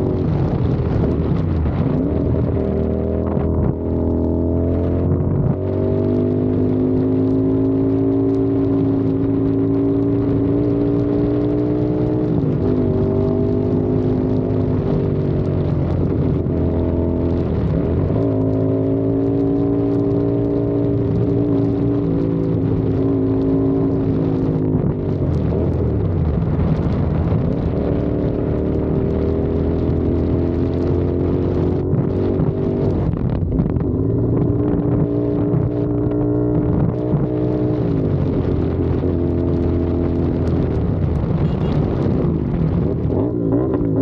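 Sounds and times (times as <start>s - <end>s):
motorcycle engine and exhaust: 0.0s - 44.0s
wind buffeting microphone: 0.0s - 44.0s.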